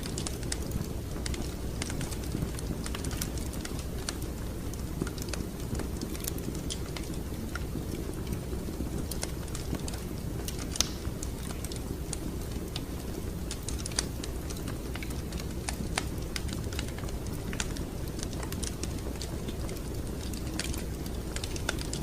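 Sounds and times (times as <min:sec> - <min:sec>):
fire crackling with pops and snaps: 0:00.0 - 0:22.0
low fire rumble: 0:00.0 - 0:22.0.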